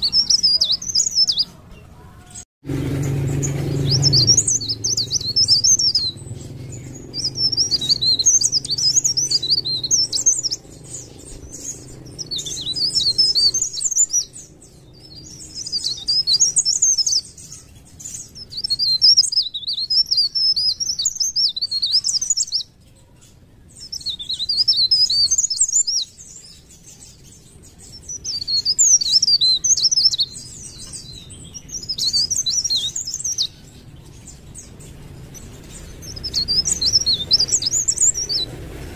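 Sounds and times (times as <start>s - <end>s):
songbird twittering: 0.0s - 38.9s.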